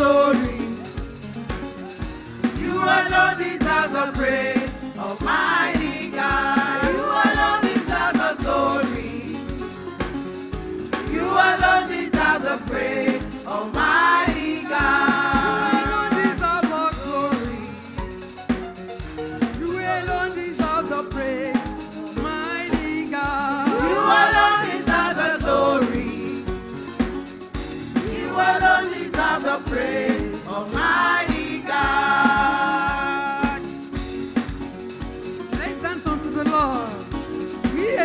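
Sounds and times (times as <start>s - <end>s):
band with bass drum beat: 0.0s - 38.0s
shaker rattling: 0.0s - 38.0s
voices singing gospel: 0.0s - 38.0s.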